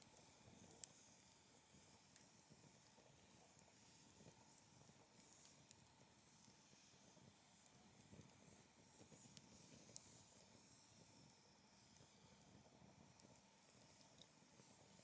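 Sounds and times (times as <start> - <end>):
low rustle of flames: 0.0 - 15.0.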